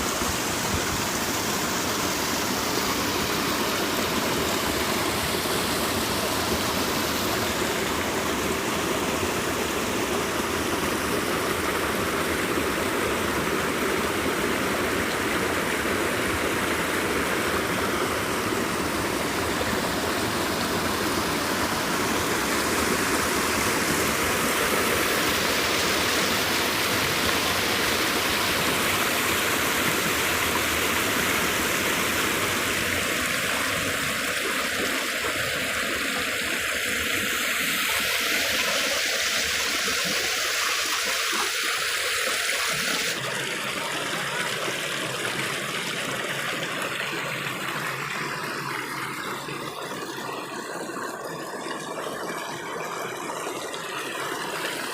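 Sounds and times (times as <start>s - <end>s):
stream water rushing over rocks: 0.0s - 54.9s.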